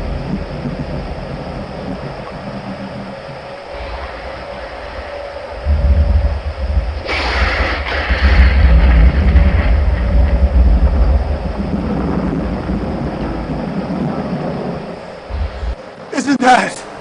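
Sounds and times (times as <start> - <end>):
rolling thunder rumble: 0.0 - 16.1
rain hissing: 0.0 - 17.0.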